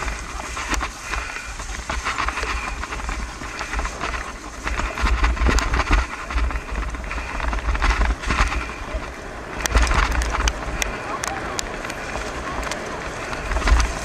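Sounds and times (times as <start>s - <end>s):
tyres crunching on gravel: 0.0s - 14.0s
wind rumbling on microphone: 0.0s - 14.0s.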